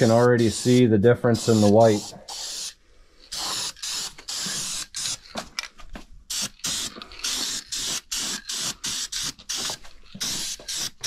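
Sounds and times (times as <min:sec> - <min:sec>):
aerosol spray can hissing: 0:00.0 - 0:05.4, 0:06.3 - 0:11.0.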